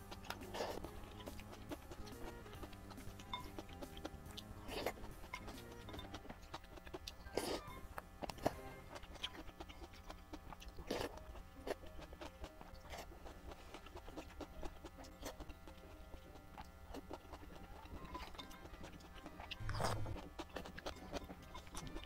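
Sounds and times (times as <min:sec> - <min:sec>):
chewing noodles: 0:00.0 - 0:22.0
slurping: 0:00.0 - 0:22.0.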